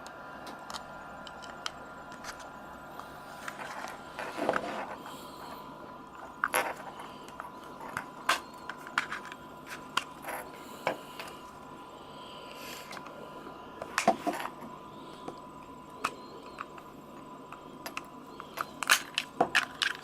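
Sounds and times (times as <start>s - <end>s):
faint steady tone: 0.0s - 20.0s.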